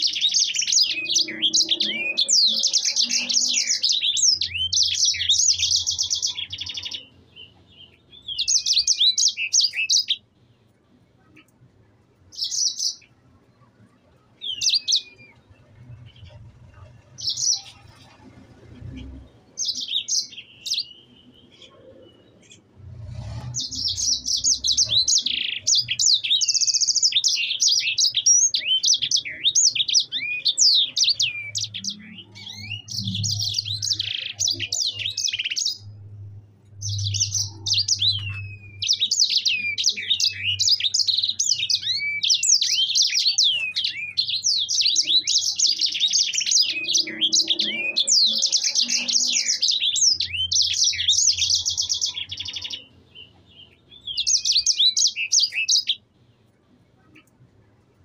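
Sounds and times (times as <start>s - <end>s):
bird singing: 0.0s - 10.6s, 12.3s - 56.1s.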